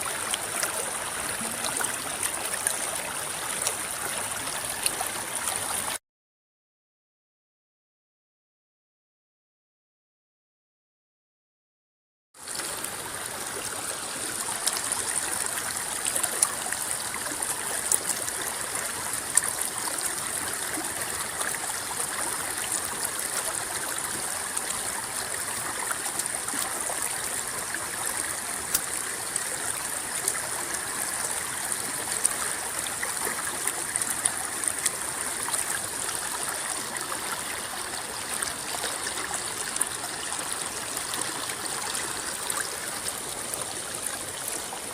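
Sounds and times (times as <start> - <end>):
river water rippling: 0.0 - 6.0, 12.4 - 44.9
water splashes and gurgles: 0.0 - 6.0, 12.4 - 44.9.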